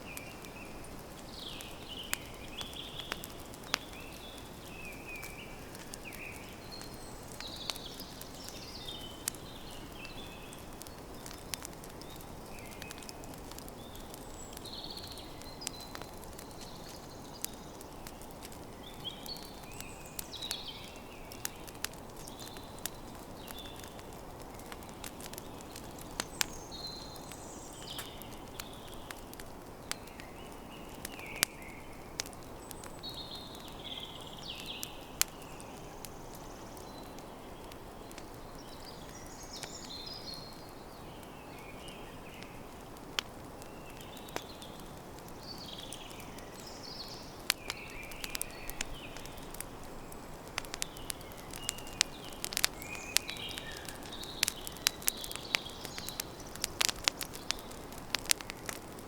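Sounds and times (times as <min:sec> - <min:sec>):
campfire crackling and popping: 0:00.0 - 0:59.0
small birds chirping: 0:00.0 - 0:59.0.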